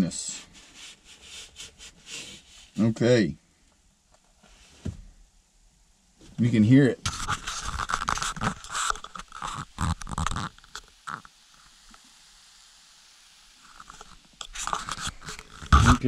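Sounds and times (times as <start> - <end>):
heating pad hissing and crackling: 0.0 - 4.9, 6.2 - 16.0.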